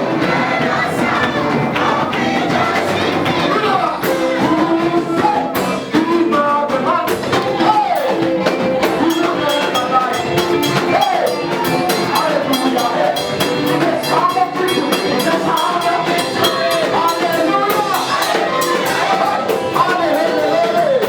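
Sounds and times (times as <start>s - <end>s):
gospel band with drum kit: 0.0s - 21.0s
person singing: 0.0s - 21.0s.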